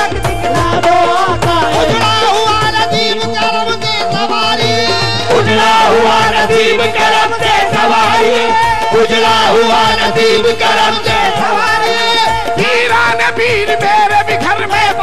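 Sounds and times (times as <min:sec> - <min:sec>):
group singing: 0:00.0 - 0:15.0
harmonium: 0:00.0 - 0:15.0
percussion beat: 0:00.0 - 0:15.0.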